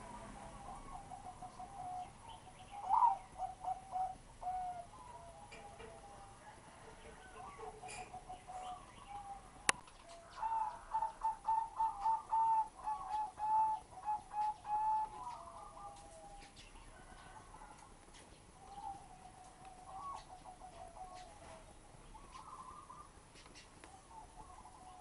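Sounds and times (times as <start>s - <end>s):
dove chick peeping: 0.0s - 25.0s.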